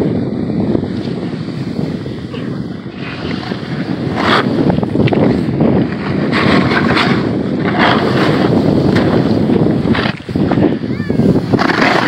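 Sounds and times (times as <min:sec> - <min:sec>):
wind rushing over microphone: 0:00.0 - 0:12.0
snowboard scraping through snow: 0:00.1 - 0:12.0.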